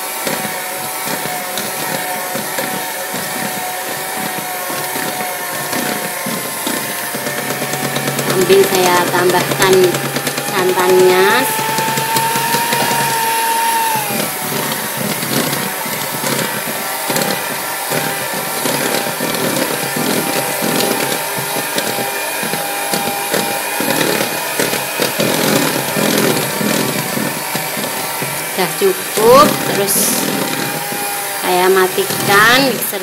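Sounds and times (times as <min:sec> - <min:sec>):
beaters churning and scraping batter: 0:00.0 - 0:33.0
electric hand mixer whine: 0:00.0 - 0:33.0.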